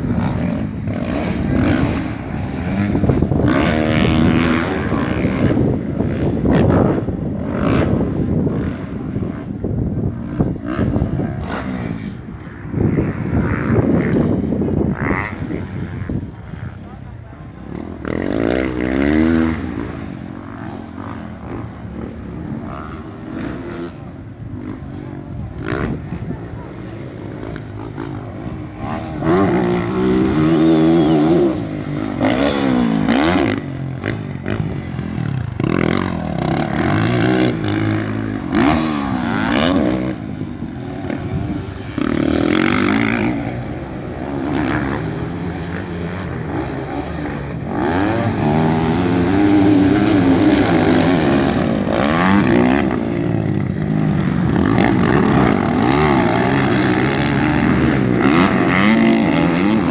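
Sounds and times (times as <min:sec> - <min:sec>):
racing motorcycle engines revving: 0:00.0 - 0:59.9.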